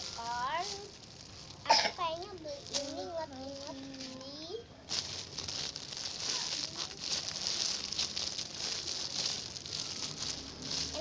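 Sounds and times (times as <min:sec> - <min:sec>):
foam toy crinkling and rustling: 0:00.0 - 0:11.0.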